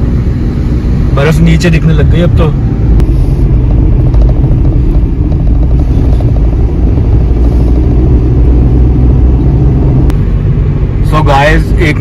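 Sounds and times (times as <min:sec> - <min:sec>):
car engine and road noise rumble: 0:00.0 - 0:12.0.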